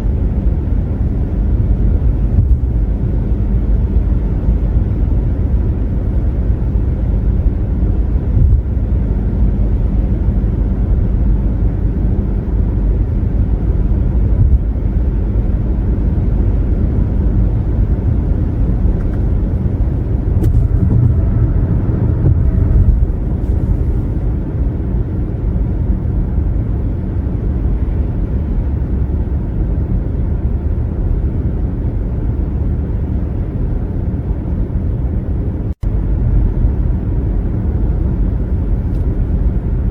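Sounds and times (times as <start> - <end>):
car cruising on highway: 0.0 - 39.9
engine drone: 0.0 - 39.9
tyre and road noise: 0.0 - 39.9.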